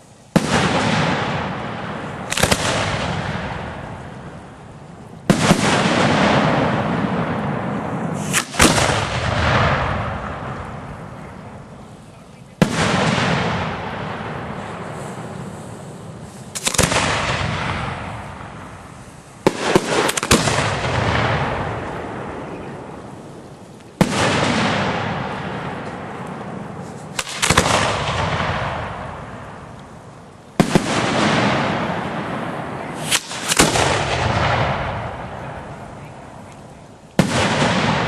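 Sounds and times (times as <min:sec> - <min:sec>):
fireworks bangs with rolling echo: 0:00.0 - 0:38.0.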